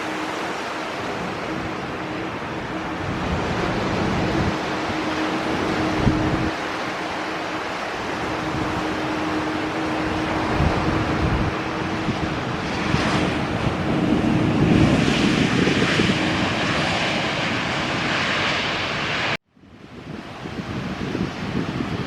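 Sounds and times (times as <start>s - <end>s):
jet airliner engine roar: 0.0s - 22.0s
wind buffeting on microphone: 0.0s - 22.0s.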